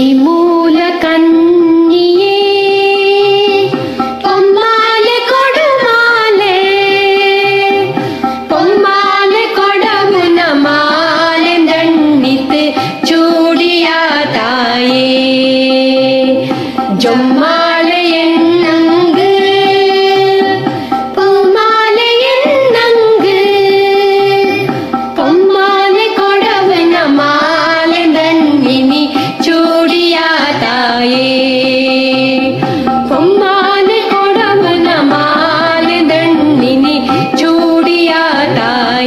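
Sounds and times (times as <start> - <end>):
girl and boy singing: 0.0 - 39.0
steady drum beat: 2.8 - 39.0.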